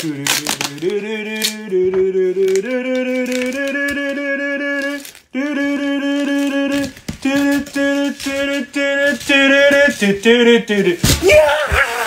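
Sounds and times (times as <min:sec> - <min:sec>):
man singing long notes: 0:00.0 - 0:12.0.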